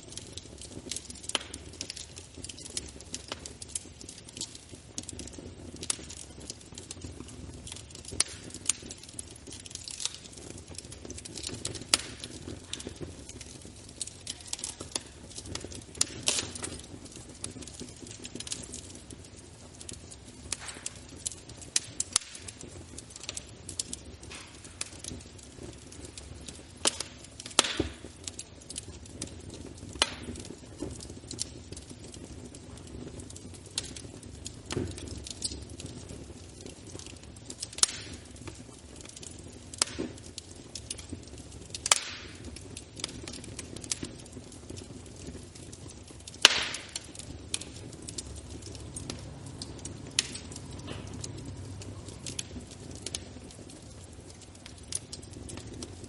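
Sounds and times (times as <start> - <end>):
low noise of flames: 0.0 - 56.0
wood fire crackling and popping: 0.0 - 56.0.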